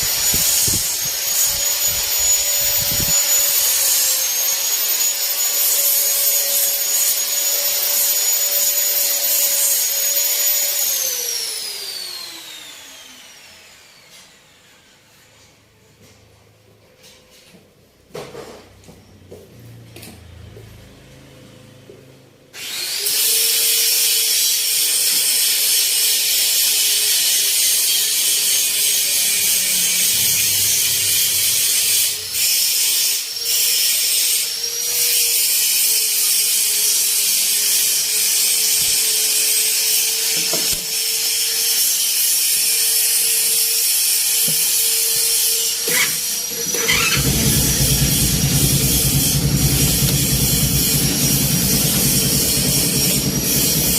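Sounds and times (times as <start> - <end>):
power tool hissing and humming: 0.0 - 15.2, 22.6 - 53.9.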